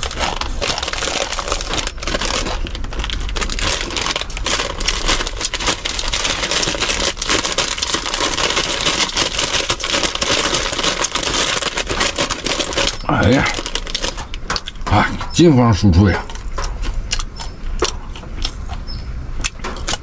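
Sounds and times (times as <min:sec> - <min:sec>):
rain pattering on car roof: 0:00.0 - 0:16.6.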